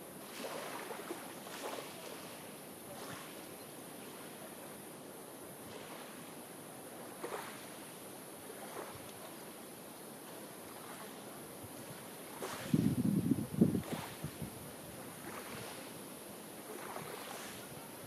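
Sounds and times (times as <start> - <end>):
constant high hiss: 0.0 - 18.0.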